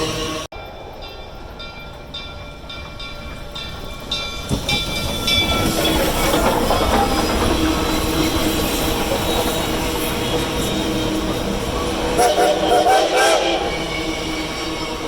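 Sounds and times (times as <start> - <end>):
train approaching: 0.0 - 15.0.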